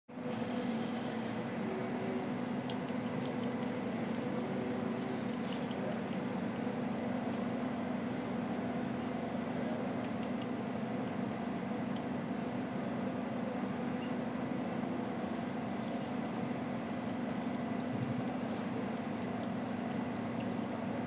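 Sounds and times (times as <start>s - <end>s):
low mechanical hum: 0.1s - 21.0s.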